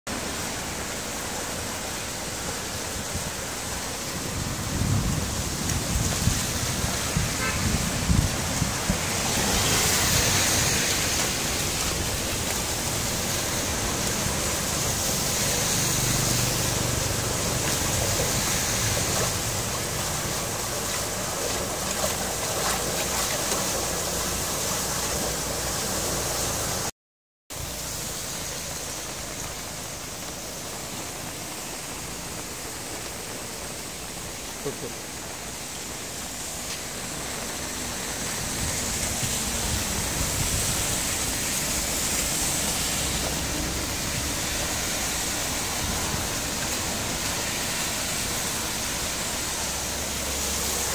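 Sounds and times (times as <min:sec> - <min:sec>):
steady rain: 0:00.1 - 0:26.9, 0:27.5 - 0:50.9.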